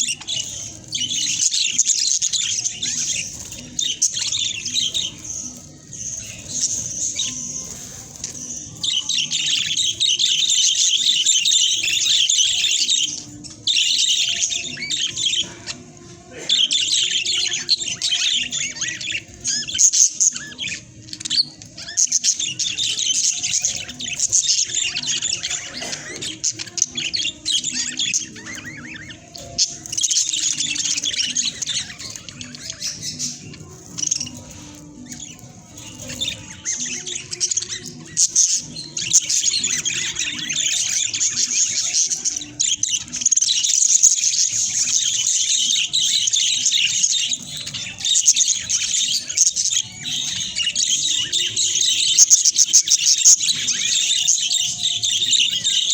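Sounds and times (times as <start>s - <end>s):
budgerigars chattering and squawking: 0.0s - 55.9s.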